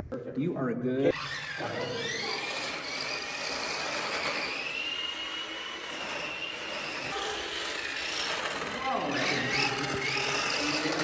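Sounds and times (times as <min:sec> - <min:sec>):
electric motor whine: 0:01.1 - 0:11.0
drivetrain and tyres rushing: 0:01.2 - 0:11.0.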